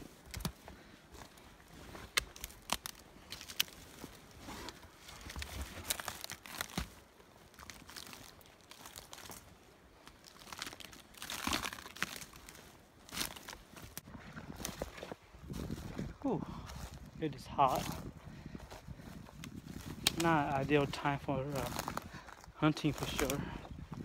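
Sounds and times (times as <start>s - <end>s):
twigs snapping and rustling: 0.0s - 17.1s, 17.7s - 24.0s
footsteps crunching through forest litter: 0.0s - 24.0s.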